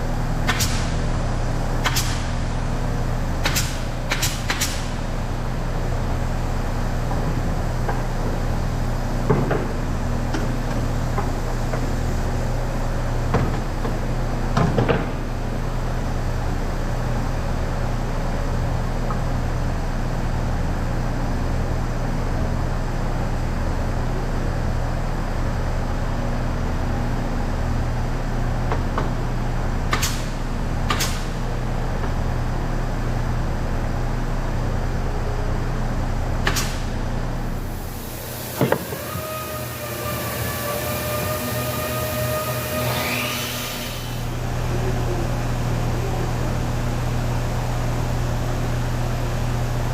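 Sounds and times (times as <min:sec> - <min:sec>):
workshop machinery humming: 0:00.0 - 0:49.9.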